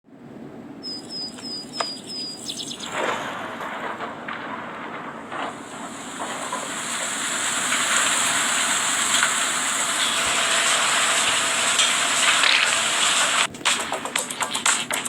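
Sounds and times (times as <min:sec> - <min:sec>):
steady rushing hiss: 0:01.3 - 0:15.0.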